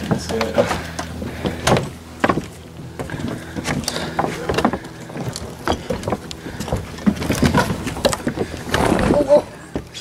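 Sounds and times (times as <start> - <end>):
footsteps on creaky wooden planks: 0.0 - 10.0.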